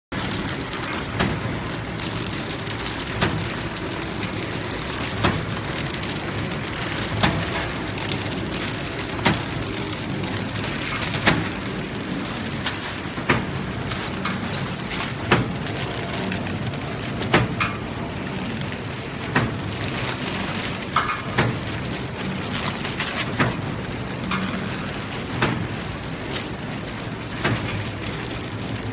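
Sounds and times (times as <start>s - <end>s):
packing machine hissing: 0.1s - 28.9s.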